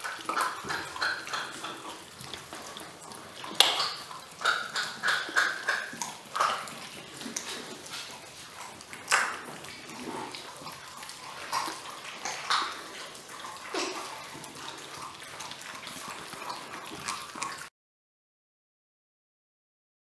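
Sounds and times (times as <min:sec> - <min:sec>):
puppies chewing wetly: 0:00.0 - 0:17.7.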